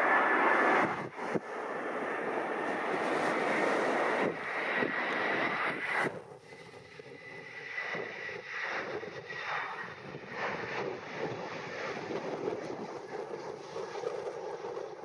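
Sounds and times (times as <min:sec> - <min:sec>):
wind on microphone: 0:00.0 - 0:01.6, 0:02.2 - 0:15.0
jet engines whining: 0:00.0 - 0:15.0.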